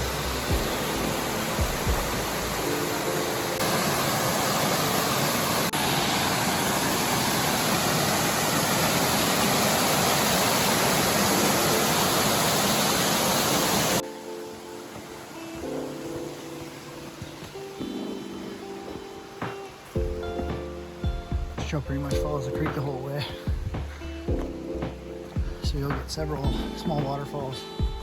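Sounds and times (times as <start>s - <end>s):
water rushing over waterfall: 0.0s - 24.1s.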